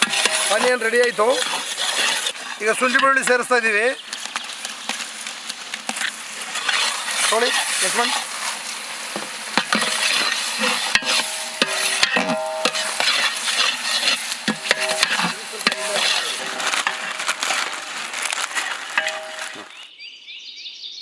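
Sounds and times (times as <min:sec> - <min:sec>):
metal ladle scraping pot: 0:00.0 - 0:19.8
onions sizzling in hot oil: 0:00.0 - 0:19.8.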